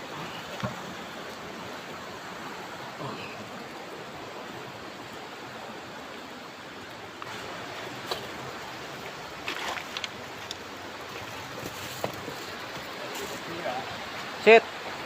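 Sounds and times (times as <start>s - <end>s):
river water running over rocks: 0.0s - 15.0s.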